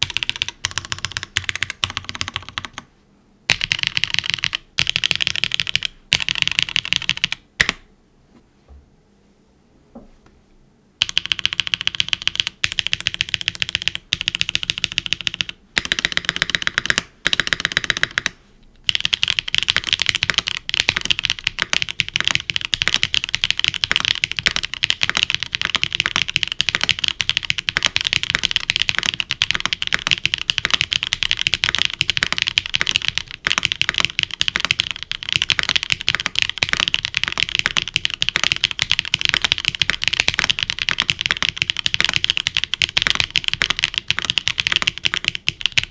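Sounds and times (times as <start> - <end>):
typing on mechanical keyboard: 0.0 - 2.9, 3.5 - 7.8, 11.0 - 45.9.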